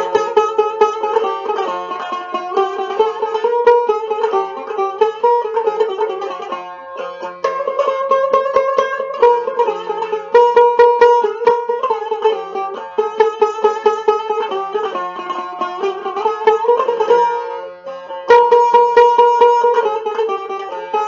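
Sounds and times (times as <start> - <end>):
plucked lute folk melody: 0.0 - 21.0.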